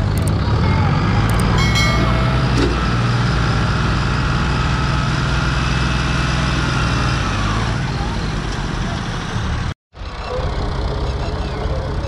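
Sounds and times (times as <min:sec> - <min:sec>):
tractor diesel engines under load: 0:00.0 - 0:12.0.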